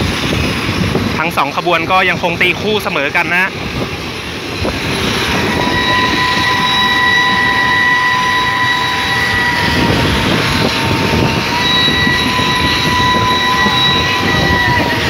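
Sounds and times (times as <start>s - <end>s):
steady high whine: 0.0s - 15.0s
train wheels rumbling on rails: 0.0s - 15.0s.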